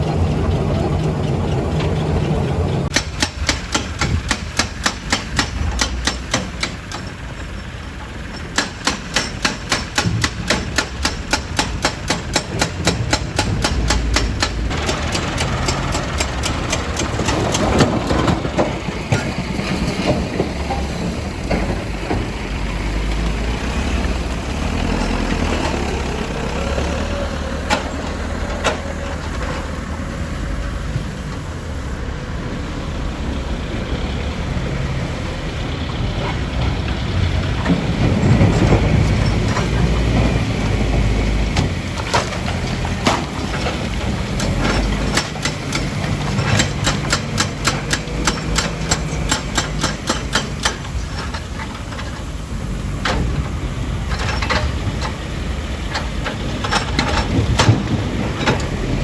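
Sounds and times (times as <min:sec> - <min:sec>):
rock and steel clanking: 0:00.0 - 0:31.0, 0:36.0 - 0:59.0
heavy diesel machinery running: 0:00.0 - 0:59.0.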